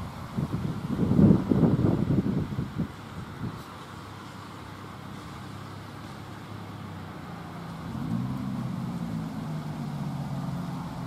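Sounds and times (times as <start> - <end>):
distant road traffic: 0.0 - 11.0
vehicle engine low hum: 0.0 - 11.0.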